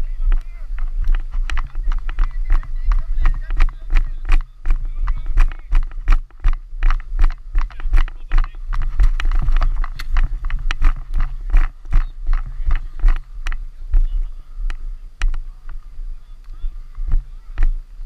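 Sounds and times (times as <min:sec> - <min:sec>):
running footsteps on grass: 0:00.0 - 0:18.0
steady low rumble: 0:00.0 - 0:18.0.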